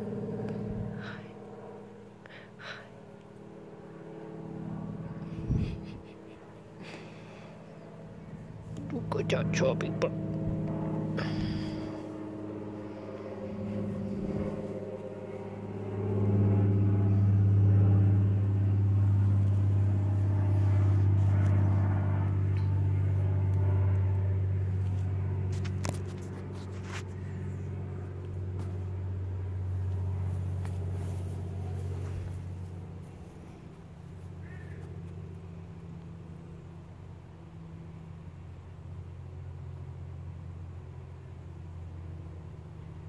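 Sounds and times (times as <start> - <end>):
low motor hum: 0.0 - 43.0.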